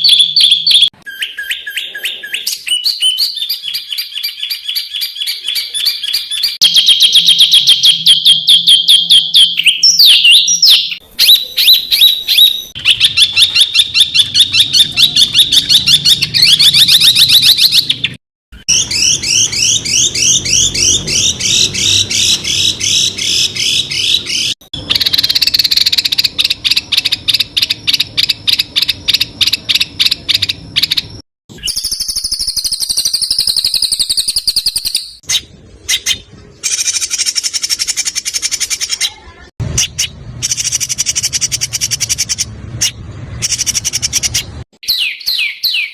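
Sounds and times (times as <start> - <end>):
songbird rapid high chirps: 0.0 - 39.2, 39.8 - 45.9.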